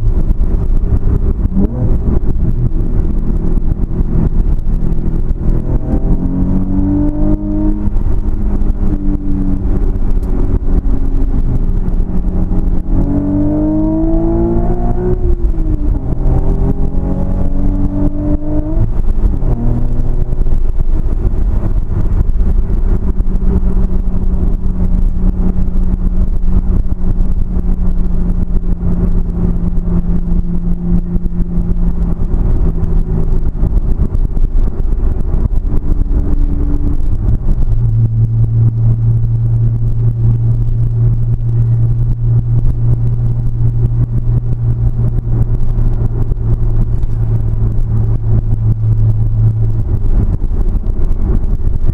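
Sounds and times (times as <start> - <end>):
car engine running: 0.0 - 51.9
heavy low rumble: 0.0 - 51.9.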